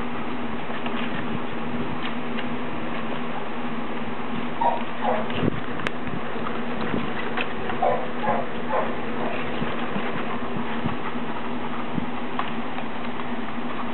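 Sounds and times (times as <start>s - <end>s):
steady hum and hiss: 0.0s - 13.9s.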